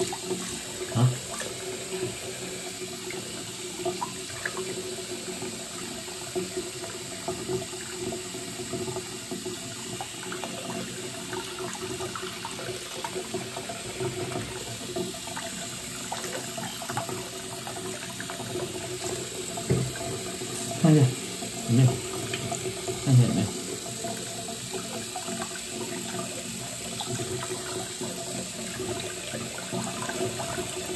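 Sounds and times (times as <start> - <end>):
tap water running into sink: 0.0 - 30.9.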